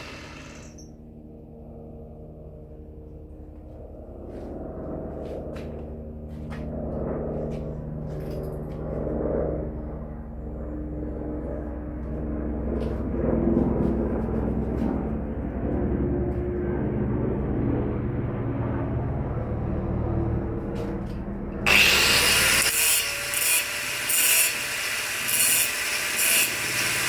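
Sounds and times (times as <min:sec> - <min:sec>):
low motor hum: 0:00.0 - 0:00.9, 0:03.0 - 0:27.0.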